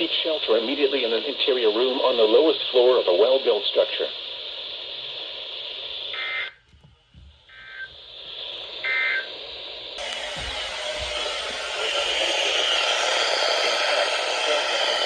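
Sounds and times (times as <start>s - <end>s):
radio hiss: 0.0s - 6.6s, 7.5s - 15.0s.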